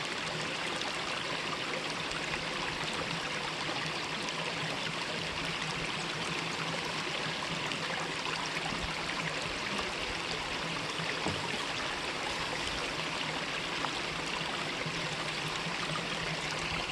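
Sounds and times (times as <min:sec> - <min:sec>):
stream flowing: 0:00.0 - 0:16.9.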